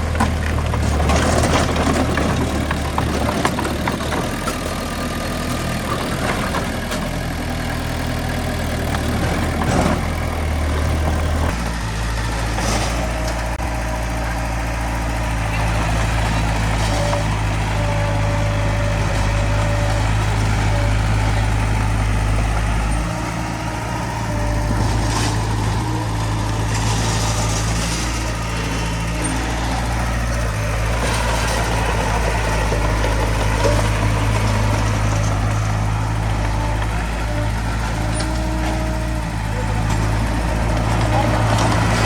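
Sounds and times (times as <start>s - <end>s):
diesel engines humming: 0.0s - 42.0s.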